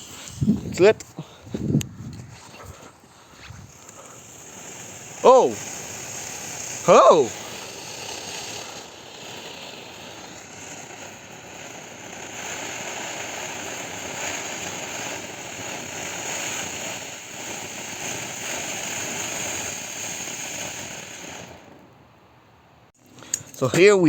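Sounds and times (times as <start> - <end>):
firework spraying sparks hiss: 0.0 - 22.0.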